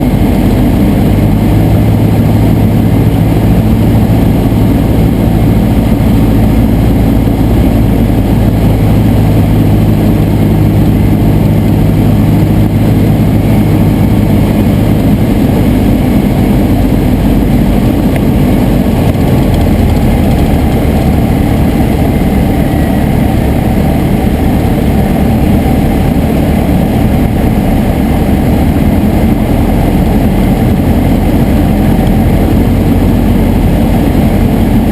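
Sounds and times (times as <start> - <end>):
light aircraft propeller engine: 0.0 - 34.9.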